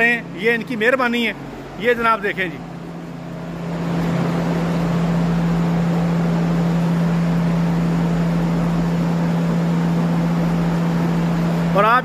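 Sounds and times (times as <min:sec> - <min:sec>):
ventilation fan humming: 0:00.0 - 0:12.0.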